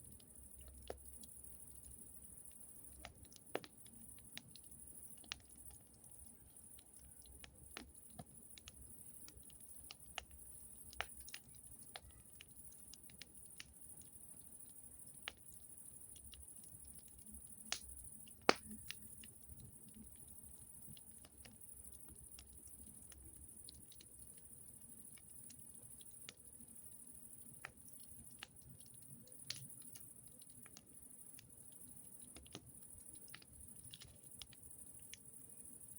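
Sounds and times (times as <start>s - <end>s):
campfire crackling: 0.0s - 35.6s.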